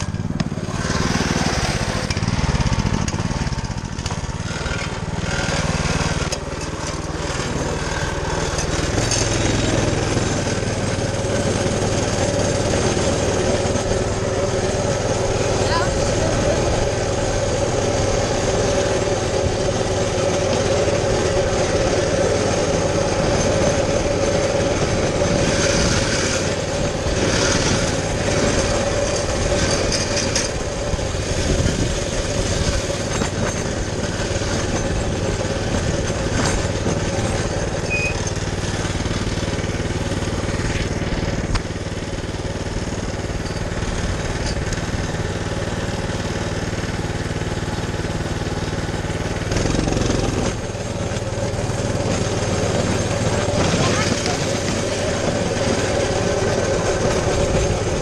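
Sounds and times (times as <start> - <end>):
motorbike engine running: 0.0 - 58.0.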